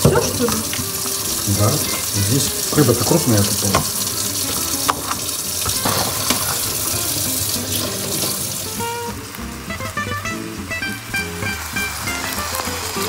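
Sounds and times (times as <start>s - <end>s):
background music: 0.0s - 13.0s
tap water running into sink: 0.0s - 13.0s.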